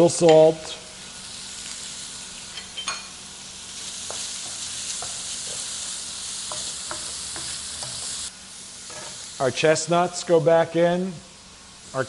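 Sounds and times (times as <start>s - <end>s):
shrimp sizzling in hot oil: 0.0s - 10.4s.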